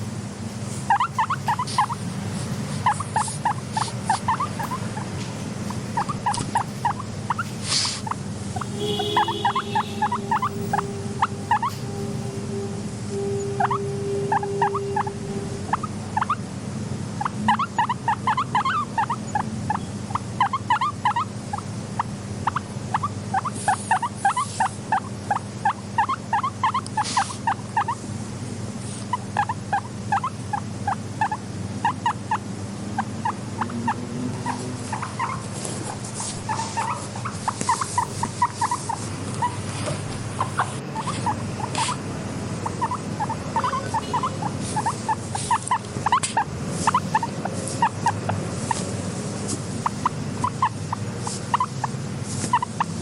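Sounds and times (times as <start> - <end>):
steady low hum: 0.0 - 53.0
guinea pigs squeaking: 0.7 - 12.2, 13.1 - 16.5, 17.1 - 53.0.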